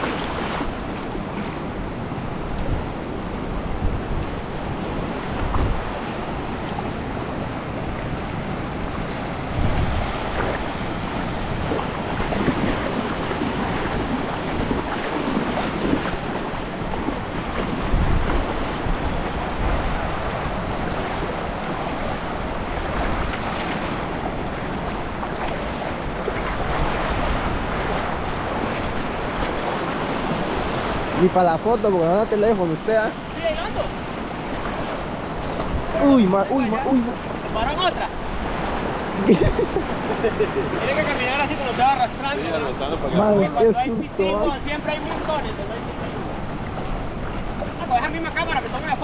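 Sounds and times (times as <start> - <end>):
wind buffeting microphone: 0.0 - 31.4, 32.6 - 49.0
sea surf washing: 0.0 - 49.0.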